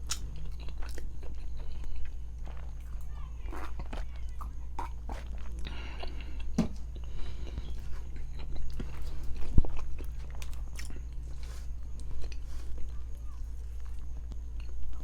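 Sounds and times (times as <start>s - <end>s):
person chewing and crunching: 0.0s - 15.0s
steady low hum: 0.0s - 15.0s.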